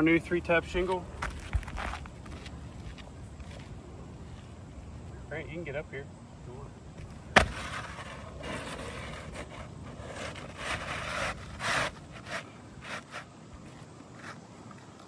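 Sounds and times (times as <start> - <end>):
shingle scraping and rustling: 0.4 - 4.6, 7.0 - 15.0.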